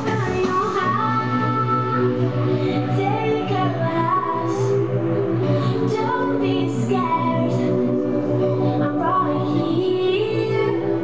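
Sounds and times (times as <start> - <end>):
dance music with pulsing bass: 0.0 - 11.0
woman singing: 0.0 - 11.0.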